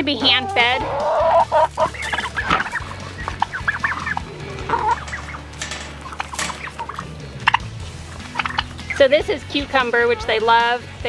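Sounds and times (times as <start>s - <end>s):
turkeys and hens clucking: 0.0s - 11.0s.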